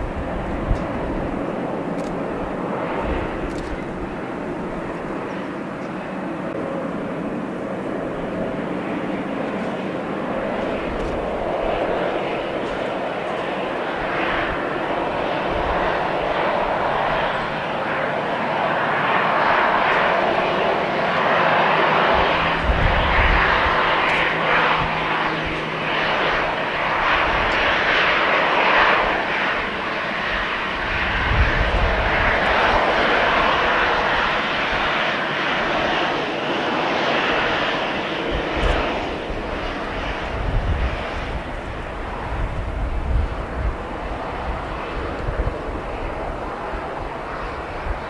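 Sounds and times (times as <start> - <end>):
jet engines of taxiing airliner: 0.0 - 48.0.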